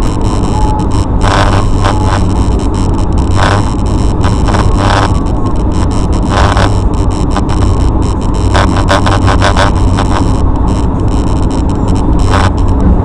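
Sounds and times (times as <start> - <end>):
car road and engine drone: 0.0 - 13.0.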